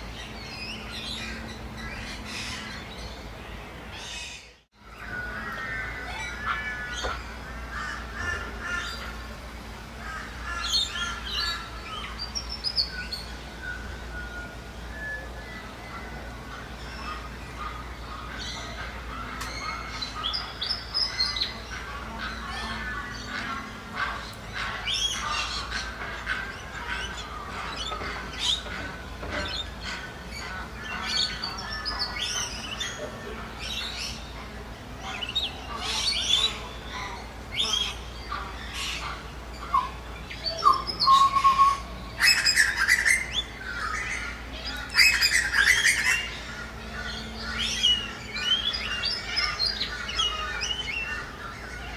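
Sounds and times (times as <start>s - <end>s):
birds squawking and chirping: 0.0s - 51.9s
ducks calling: 4.0s - 12.6s, 15.2s - 51.9s.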